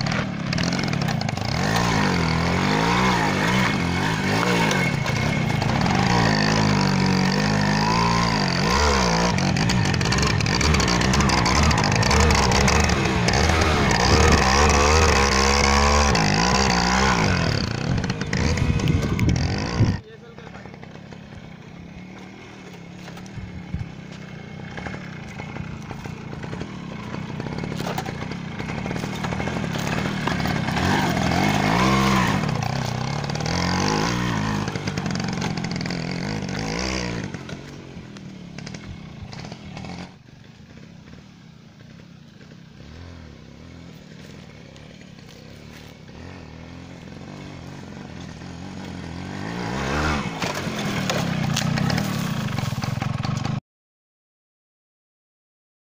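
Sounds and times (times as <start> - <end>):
motorcycle engine revving: 0.0 - 53.6.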